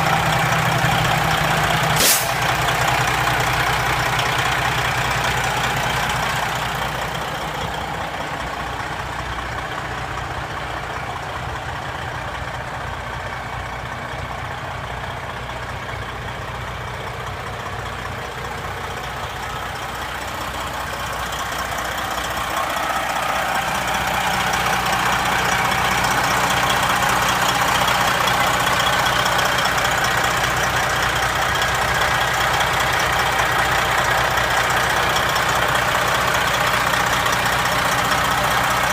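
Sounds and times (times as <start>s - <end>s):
diesel truck idling: 0.0s - 38.9s.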